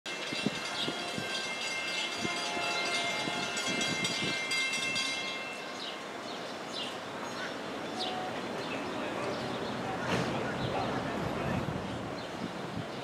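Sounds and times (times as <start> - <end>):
train humming: 0.2 - 13.0.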